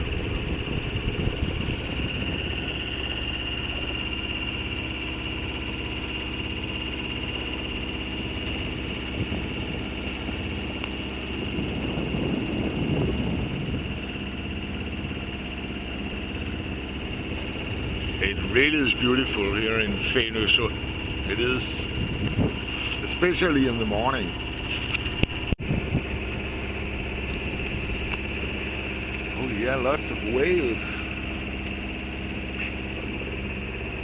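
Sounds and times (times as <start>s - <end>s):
boat engine running: 0.0s - 34.0s
high whine: 0.0s - 34.0s
low rumble: 0.0s - 34.0s.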